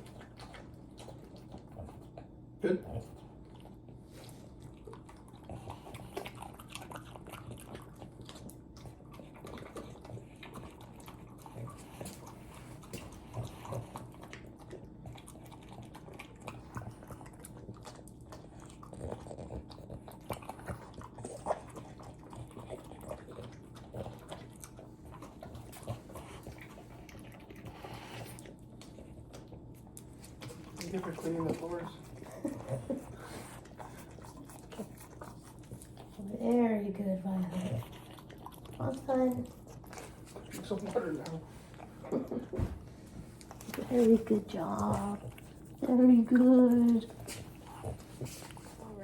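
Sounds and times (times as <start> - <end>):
dog chewing and crunching treat: 0.0 - 49.0.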